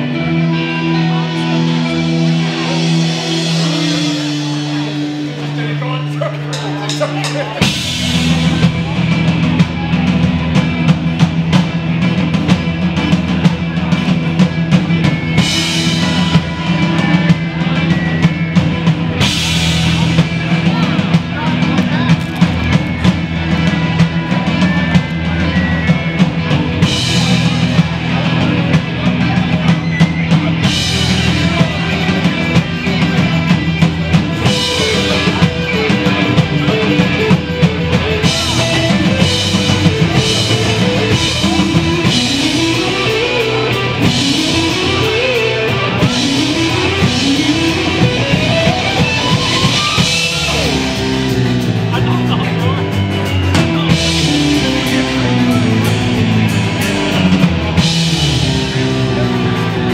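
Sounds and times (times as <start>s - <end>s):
live rock band playing: 0.0s - 59.9s
pitch-bending guitar lead line: 0.0s - 59.9s.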